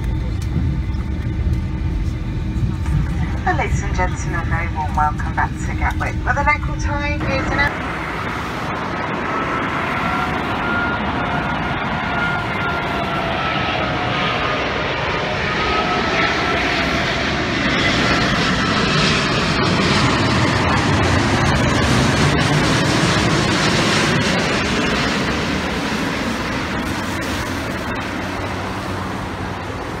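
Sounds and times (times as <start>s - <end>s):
jet airliner passing overhead: 0.0s - 30.0s.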